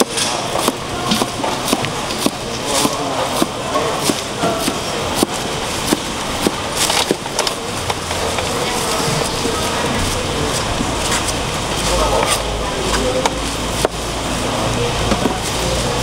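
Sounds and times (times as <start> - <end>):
background hubbub: 0.0 - 16.0.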